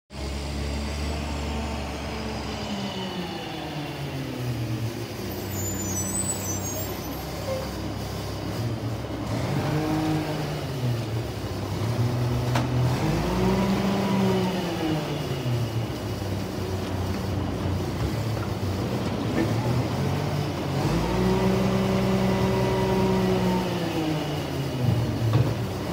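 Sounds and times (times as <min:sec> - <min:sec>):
garbage truck engine running: 0:00.2 - 0:25.9.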